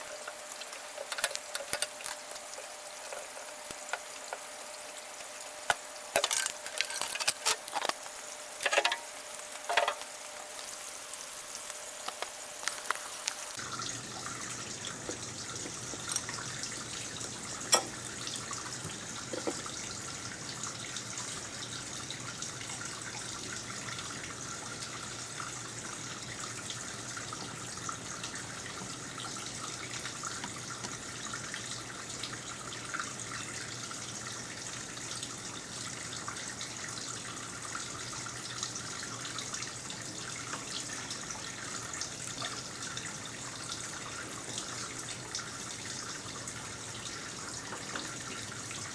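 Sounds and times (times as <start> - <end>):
water running: 0.0 - 48.9.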